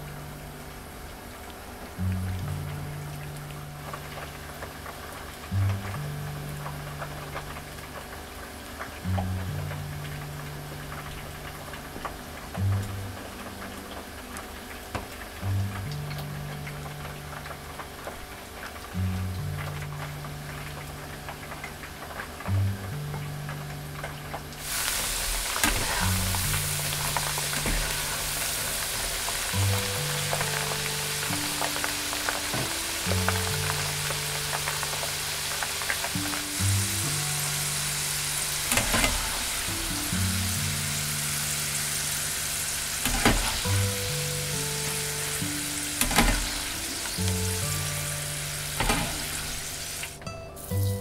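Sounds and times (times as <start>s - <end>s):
background music with low notes: 0.0s - 51.0s
fries sizzling in hot oil: 0.0s - 51.0s.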